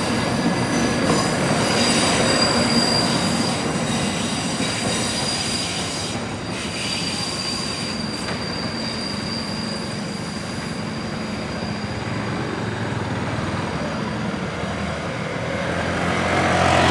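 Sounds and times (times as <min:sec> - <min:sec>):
train wheels squealing: 0:00.0 - 0:15.0
train running noise: 0:00.0 - 0:16.9.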